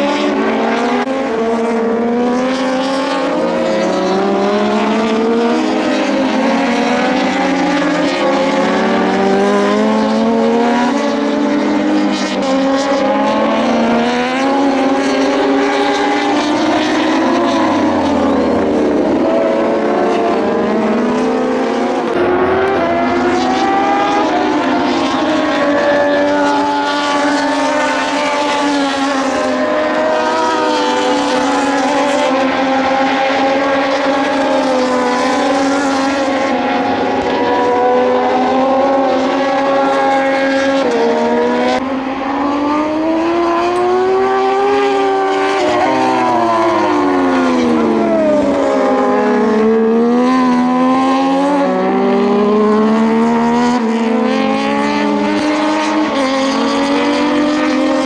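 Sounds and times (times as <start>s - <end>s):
racing motorcycles passing: 0.0s - 58.0s.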